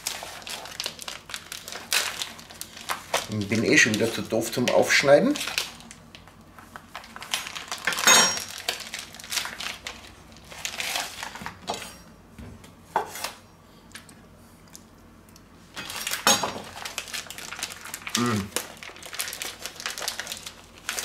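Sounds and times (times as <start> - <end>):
plastic rustling: 0.0 - 11.9, 15.7 - 21.0.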